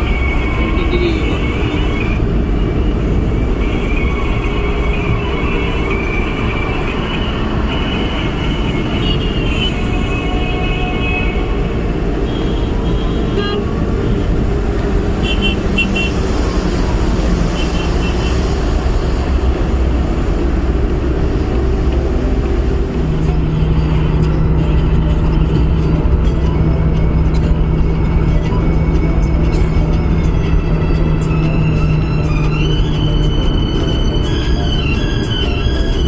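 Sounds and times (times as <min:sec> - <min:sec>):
car road rumble and tyre noise: 0:00.0 - 0:36.0.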